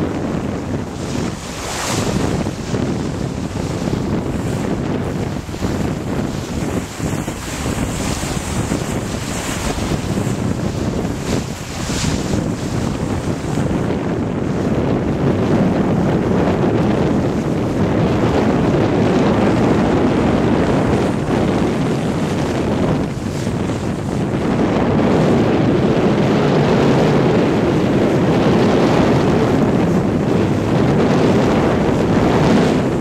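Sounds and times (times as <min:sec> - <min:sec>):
water rushing past hull: 0:00.0 - 0:33.0
wind buffeting microphone: 0:00.0 - 0:33.0.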